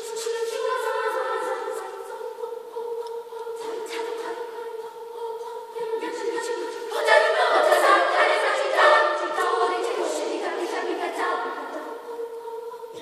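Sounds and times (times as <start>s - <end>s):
girls' choir singing: 0.0s - 13.0s.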